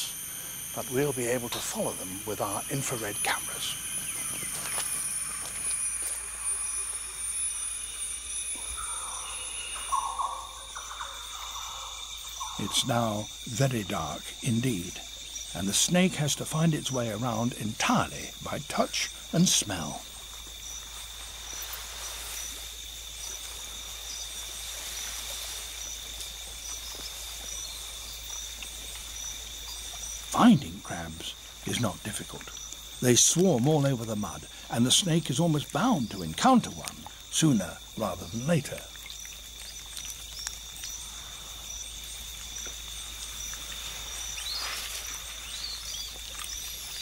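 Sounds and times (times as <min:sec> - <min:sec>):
insect high trill: 0:00.0 - 0:47.0
insect short chirps: 0:00.0 - 0:47.0
soft hiss: 0:00.0 - 0:47.0.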